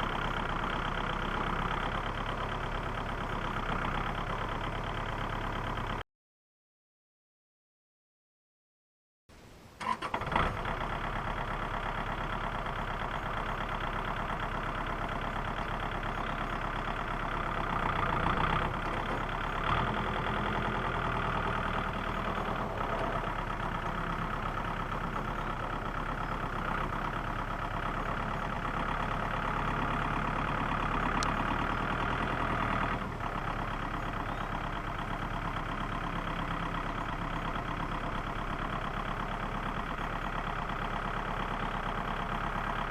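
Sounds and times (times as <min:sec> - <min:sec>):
tractor engine running: 0:00.0 - 0:06.0, 0:09.8 - 0:42.9.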